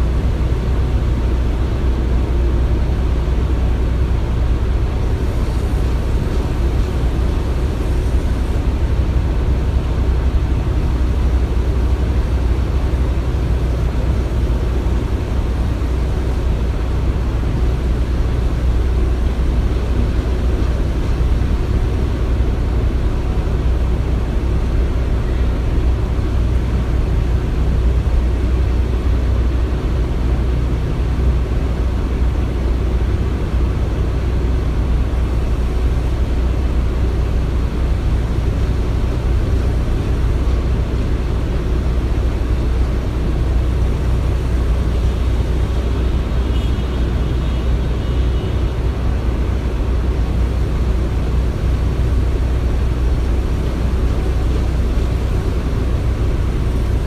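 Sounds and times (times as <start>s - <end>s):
construction machinery rumbling: 0.0s - 57.0s.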